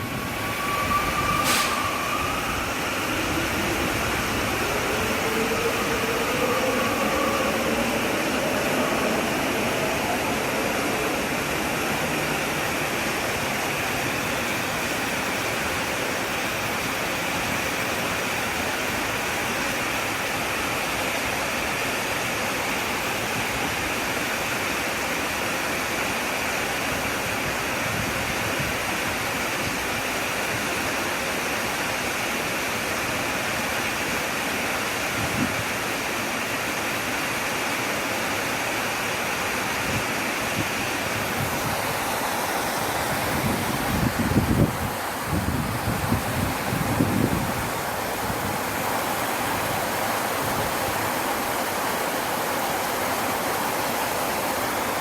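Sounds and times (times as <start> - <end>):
flowing water rushing: 0.0 - 27.8, 28.8 - 55.0.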